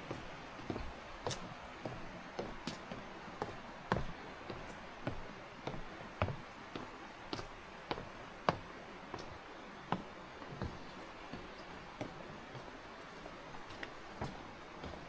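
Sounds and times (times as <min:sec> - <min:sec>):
footsteps on a trail: 0:00.0 - 0:15.0
steady background hiss: 0:00.0 - 0:15.0.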